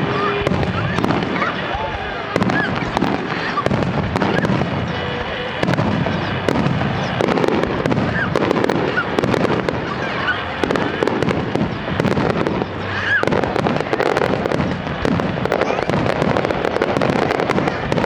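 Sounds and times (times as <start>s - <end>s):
fireworks bursting with sharp cracks: 0.0s - 18.0s.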